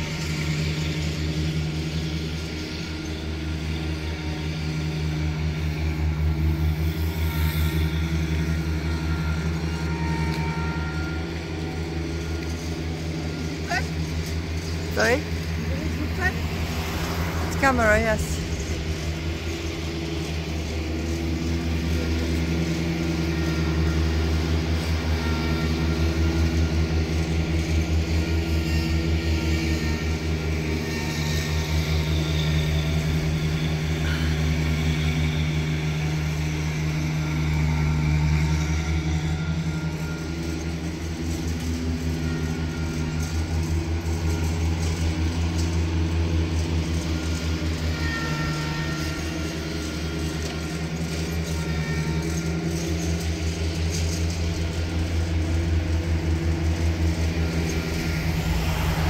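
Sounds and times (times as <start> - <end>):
traffic noise: 0.0 - 59.0
vehicle engine humming: 0.0 - 59.0.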